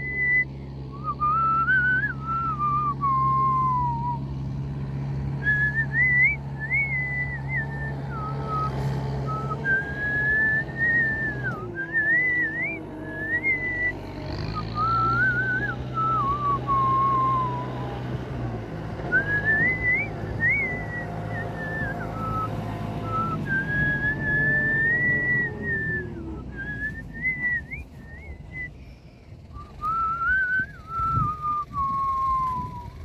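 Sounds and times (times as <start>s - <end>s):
person whistling a tune: 0.0s - 4.2s, 5.4s - 17.8s, 19.1s - 28.9s, 29.5s - 33.0s.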